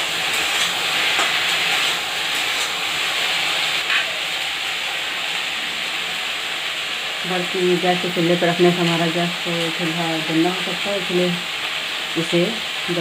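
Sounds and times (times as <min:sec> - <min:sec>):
oil sizzling hiss: 0:00.0 - 0:13.0.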